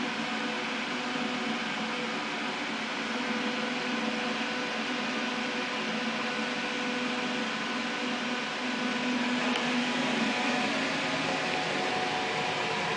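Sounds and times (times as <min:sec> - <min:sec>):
electric fan whirring: 0:00.0 - 0:12.9.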